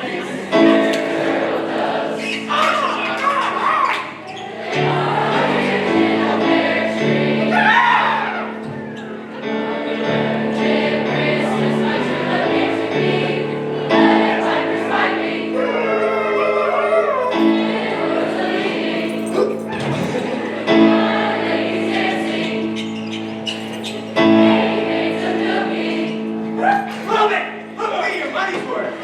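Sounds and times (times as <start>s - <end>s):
sustained chordal accompaniment: 0.0s - 3.8s, 4.6s - 29.0s
choir singing: 0.0s - 29.0s.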